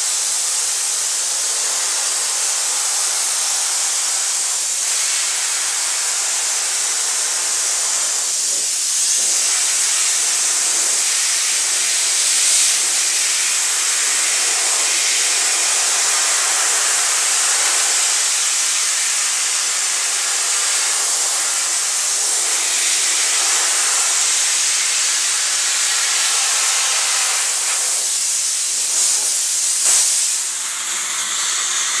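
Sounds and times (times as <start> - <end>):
blasting nozzle hissing: 0.0 - 32.0.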